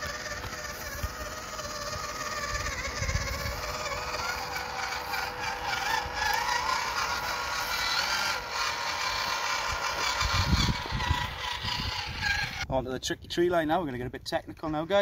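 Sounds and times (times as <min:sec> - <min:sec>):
toy truck motor whining: 0:00.0 - 0:12.7.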